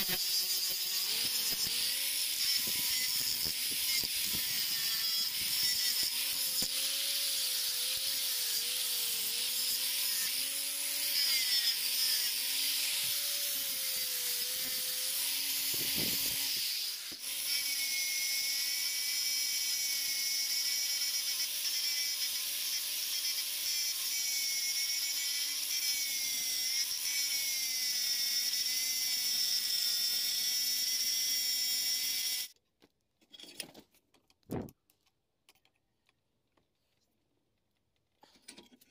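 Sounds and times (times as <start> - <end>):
angle grinder grinding metal: 0.0 - 32.6.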